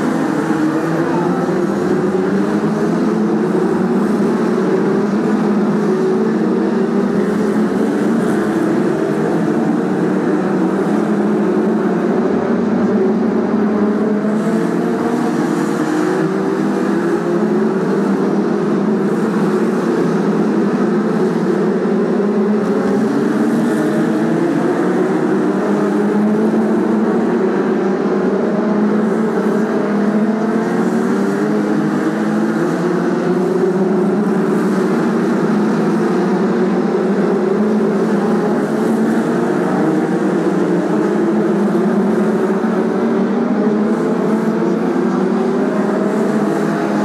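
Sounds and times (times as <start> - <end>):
racing car engines: 0.0 - 47.0.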